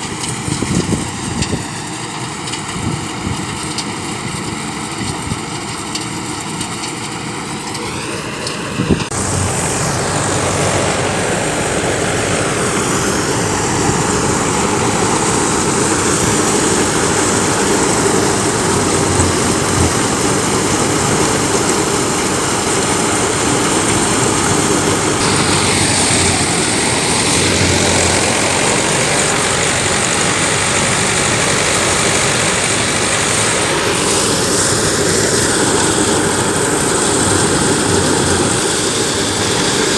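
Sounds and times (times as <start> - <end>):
harvester engine running: 0.0 - 39.9.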